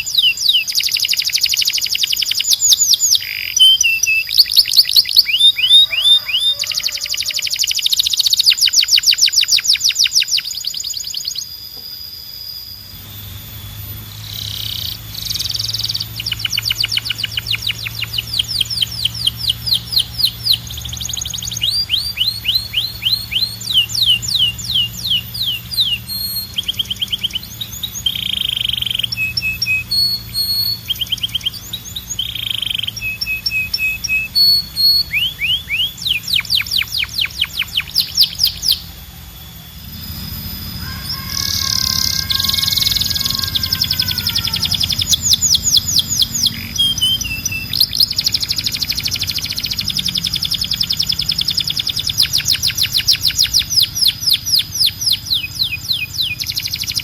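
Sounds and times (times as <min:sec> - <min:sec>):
canary singing rapid trills: 0:00.0 - 0:57.0.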